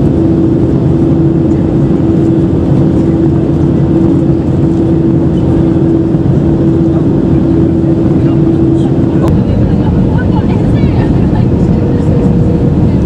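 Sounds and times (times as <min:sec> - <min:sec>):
aircraft engines droning: 0:00.0 - 0:13.0
steady hum: 0:00.0 - 0:13.0.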